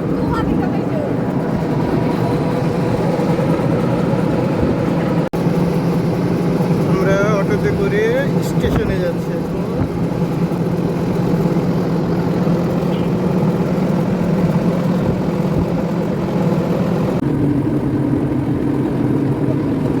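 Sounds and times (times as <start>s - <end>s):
auto-rickshaw engine hum: 0.0s - 20.0s
road and rattle noise: 0.0s - 20.0s.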